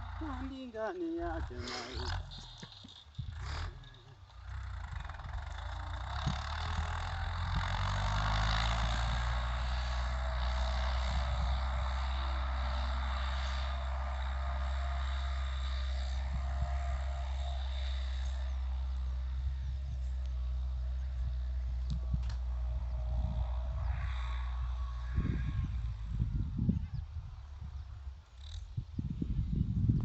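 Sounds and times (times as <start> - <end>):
tractor diesel engine running: 0.0 - 29.6.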